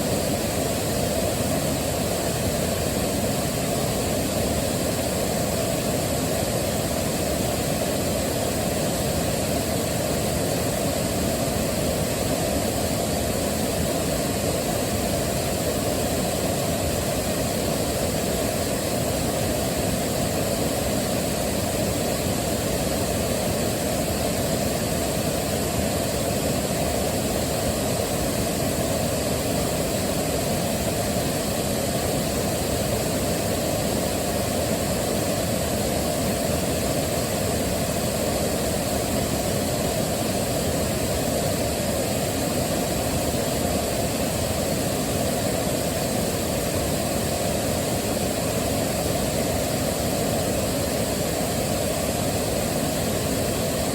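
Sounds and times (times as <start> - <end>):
waterfall rushing water: 0.0 - 53.9.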